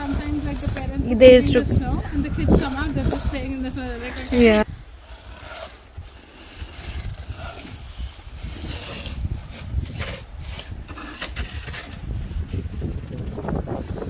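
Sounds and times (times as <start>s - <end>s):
snow shovels scraping snow: 0.0s - 12.1s
wind rumbling on microphone: 0.0s - 14.0s.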